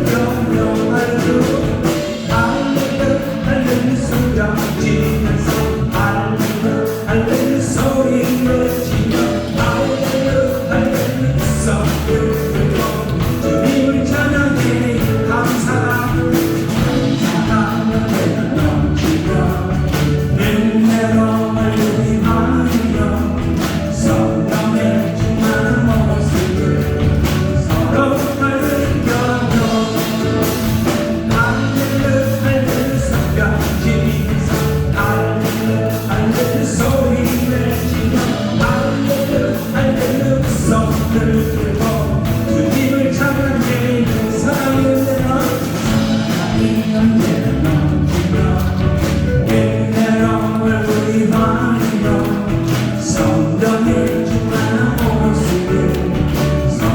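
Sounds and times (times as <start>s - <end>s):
bass: 0.0s - 56.9s
drums with steady beat: 0.0s - 56.9s
keyboard or guitar: 0.0s - 56.9s
voices singing together: 0.0s - 56.9s.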